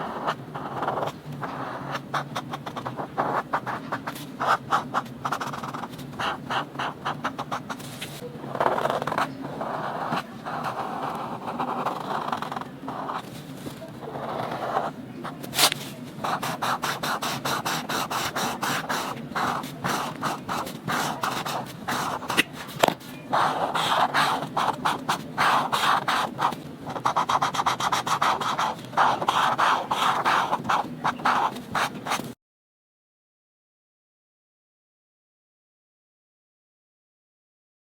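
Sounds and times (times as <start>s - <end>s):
coloring strokes scratching on paper: 0.0s - 32.3s.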